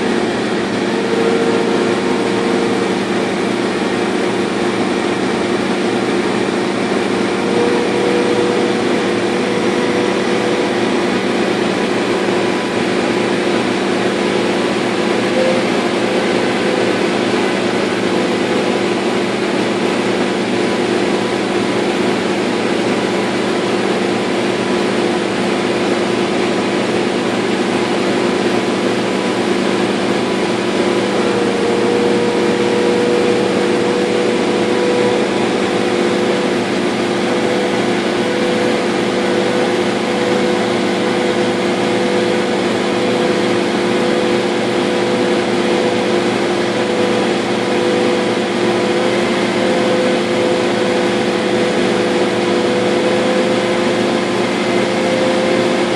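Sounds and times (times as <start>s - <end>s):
laser cutter humming: 0.0s - 55.9s.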